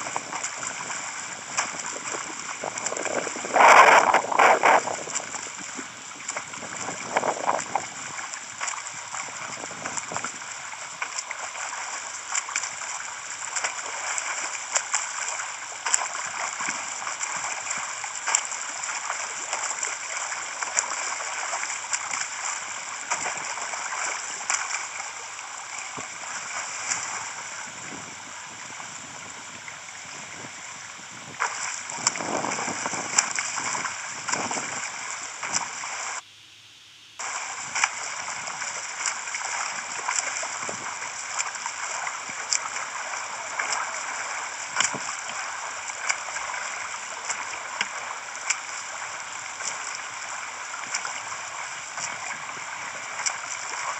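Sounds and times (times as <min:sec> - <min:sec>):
water splashing from swimming: 0:00.0 - 0:36.2, 0:37.2 - 0:53.9.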